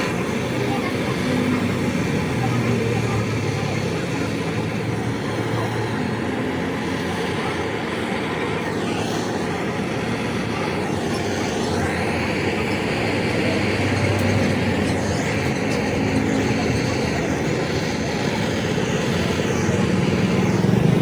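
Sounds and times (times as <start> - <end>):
machinery hum and rushing: 0.0 - 21.0.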